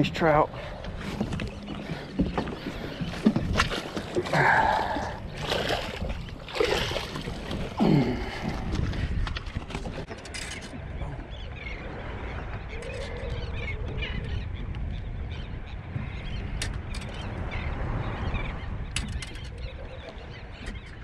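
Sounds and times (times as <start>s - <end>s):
water noise: 0.0s - 21.0s
wind: 0.0s - 21.0s.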